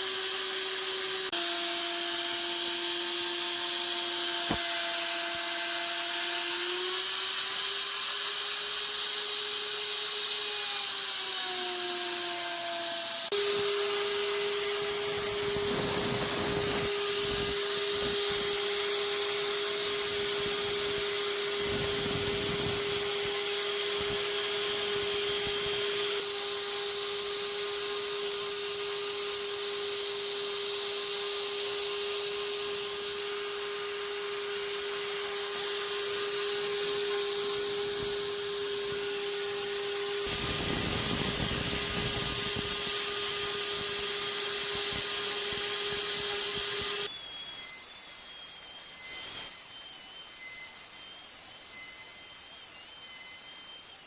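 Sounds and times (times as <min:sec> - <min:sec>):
power tool motor whining: 0:00.0 - 0:52.6.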